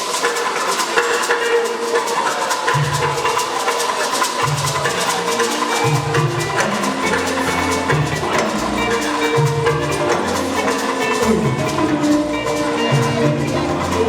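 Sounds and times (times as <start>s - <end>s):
percussion beat of clicks and drums: 0.0s - 14.0s.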